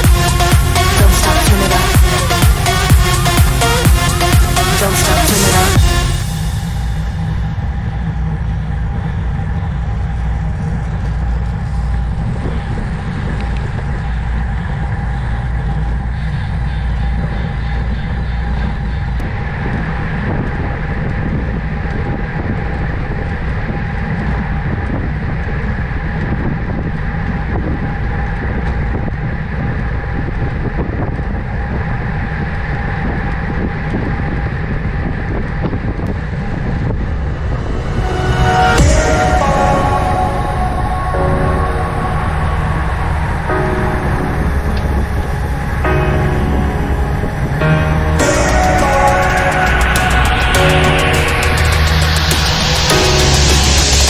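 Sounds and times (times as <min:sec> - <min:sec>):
road and tyre noise: 0:00.0 - 0:54.0
wind rumble on microphone: 0:05.7 - 0:54.0.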